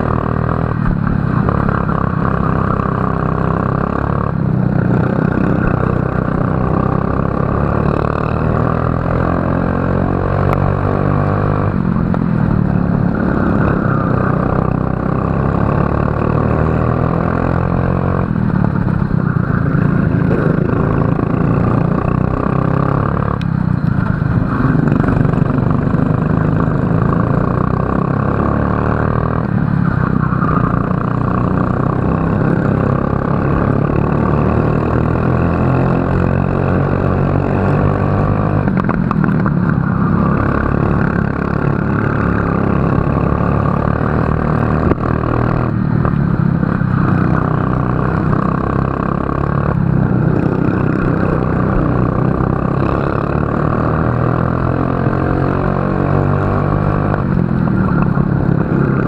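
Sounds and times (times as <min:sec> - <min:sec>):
racing kart engine revving: 0:00.0 - 0:59.0.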